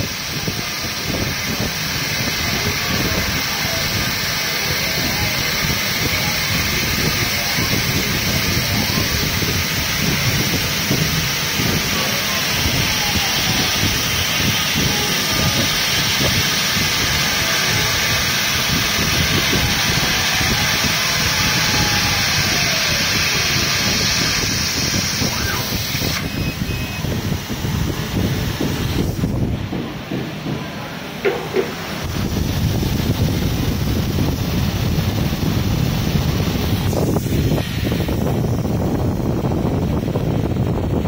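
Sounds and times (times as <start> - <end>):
laser cutter air hiss: 0.0 - 40.1.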